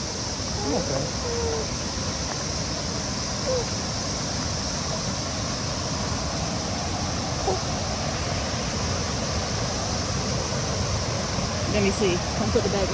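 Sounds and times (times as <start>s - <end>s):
cicadas droning: 0.0s - 12.9s
low constant rushing noise: 0.0s - 12.9s.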